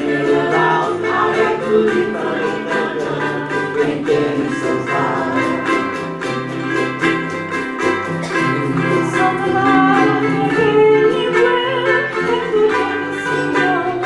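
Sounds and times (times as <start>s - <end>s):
ukulele ensemble playing calypso: 0.0s - 14.0s.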